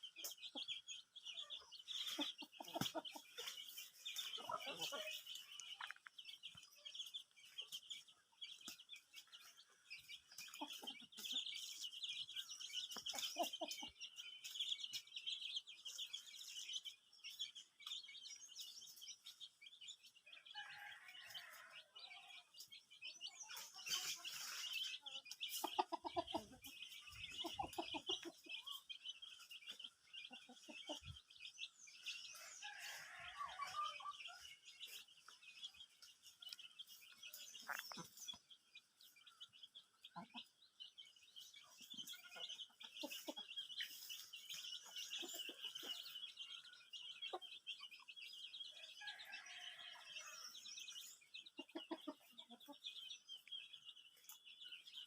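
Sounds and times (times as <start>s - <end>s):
birds chirping: 0.0s - 55.0s
chickens clucking: 0.0s - 55.0s.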